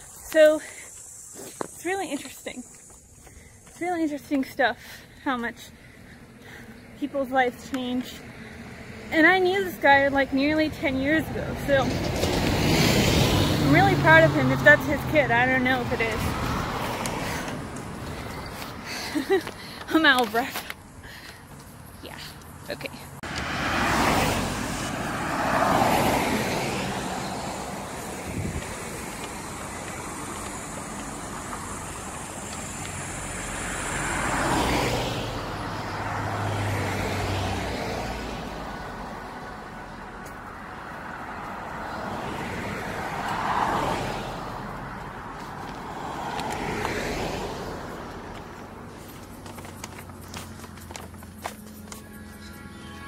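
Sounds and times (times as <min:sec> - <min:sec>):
cars passing by: 0:00.0 - 0:53.0.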